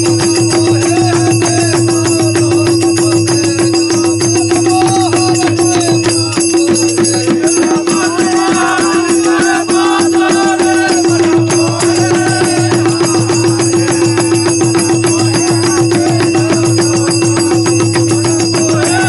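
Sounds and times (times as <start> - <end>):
barrel drums beating: 0.0 - 19.0
men singing in unison: 0.0 - 19.0
rattling percussion: 0.0 - 19.0.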